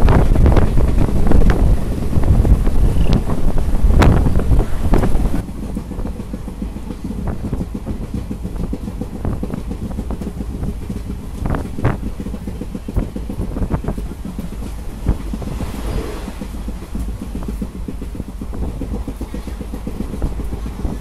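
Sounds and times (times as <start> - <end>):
train rumbling: 0.0 - 21.0
wind buffeting microphone: 0.0 - 21.0.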